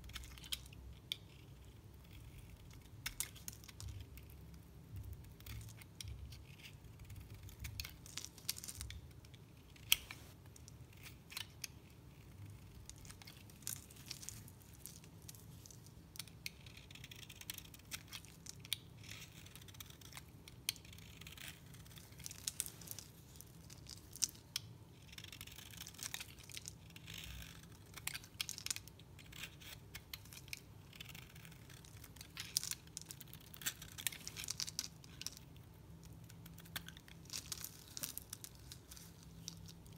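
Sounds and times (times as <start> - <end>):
knife shaving soap: 0.0 - 10.0, 10.6 - 35.5.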